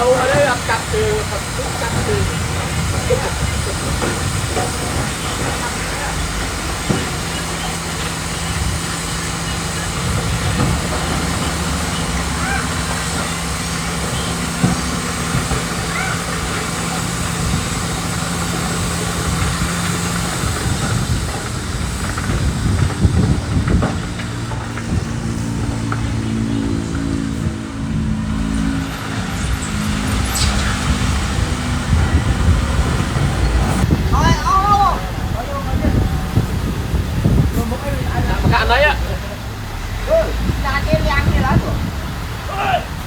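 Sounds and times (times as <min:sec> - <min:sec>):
diesel machinery engine: 0:00.0 - 0:43.0
rattling and crunching: 0:00.0 - 0:43.0
second engine rising and falling: 0:00.0 - 0:43.0.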